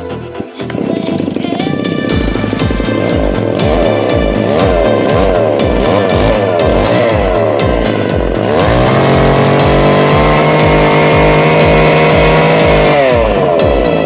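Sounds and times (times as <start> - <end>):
background music with steady beat: 0.0 - 14.0
small two-stroke engine revving: 0.6 - 14.0.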